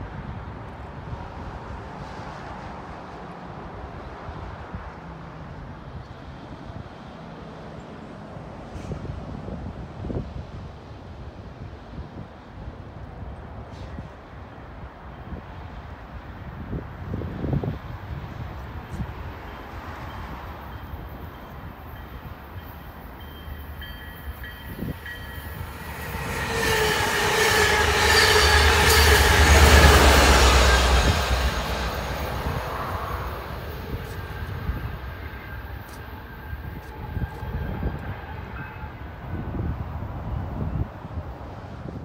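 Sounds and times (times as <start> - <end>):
train passing rumble: 0.0 - 42.0.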